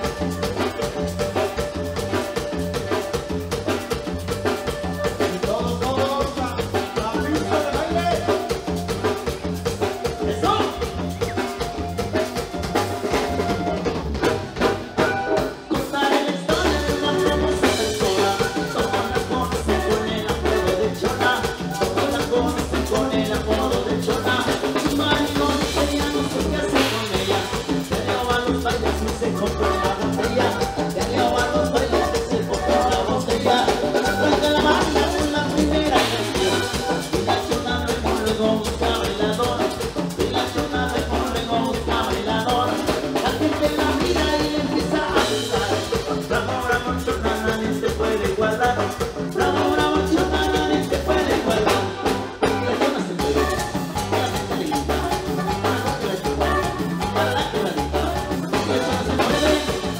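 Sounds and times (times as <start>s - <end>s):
latin dance band music: 0.0s - 59.9s.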